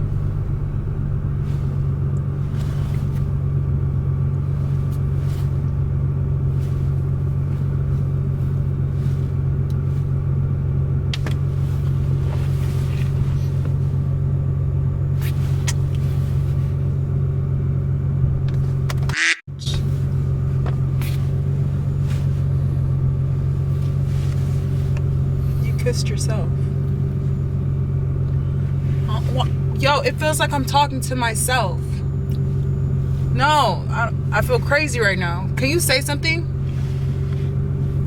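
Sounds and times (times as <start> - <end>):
car cabin rumble: 0.0 - 38.0.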